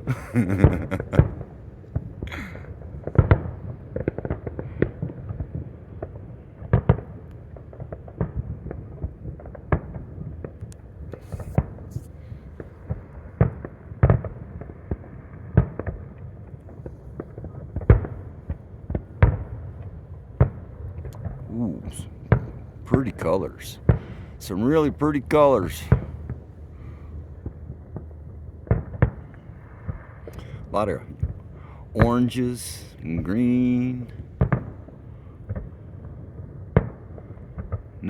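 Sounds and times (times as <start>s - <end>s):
fireworks bangs and pops: 0.0s - 38.0s
low background rumble: 0.0s - 38.0s.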